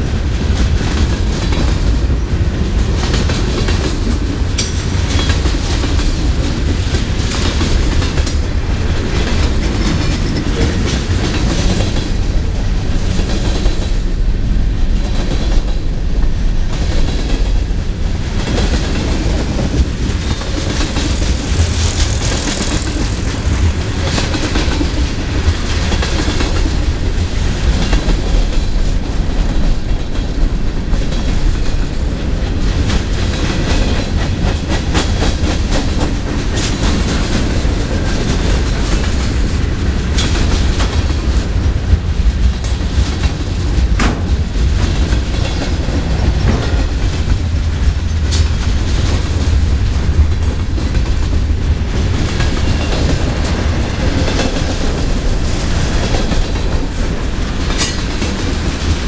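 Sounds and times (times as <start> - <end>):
steel wheels rumbling on rail: 0.0 - 59.0
wheels clacking over rail joints: 0.2 - 14.2, 14.8 - 59.0.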